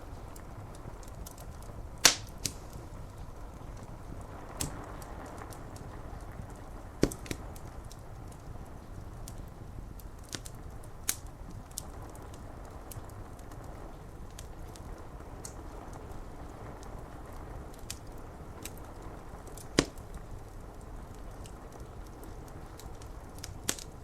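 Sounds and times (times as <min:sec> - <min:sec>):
rain on window glass: 0:00.0 - 0:24.0
wood fire crackling: 0:00.0 - 0:24.0.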